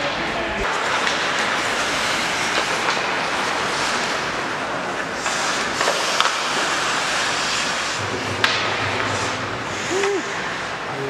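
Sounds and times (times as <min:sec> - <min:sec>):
hockey sticks clacking puck: 0:00.0 - 0:09.3
skates scraping on ice: 0:00.7 - 0:10.9.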